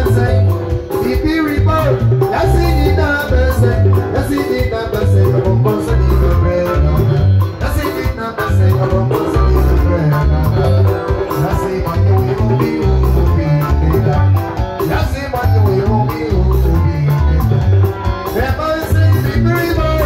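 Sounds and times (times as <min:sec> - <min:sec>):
drum kit with cymbals: 0:00.0 - 0:20.0
electric guitars: 0:00.0 - 0:20.0
heavy bass line: 0:00.0 - 0:20.0.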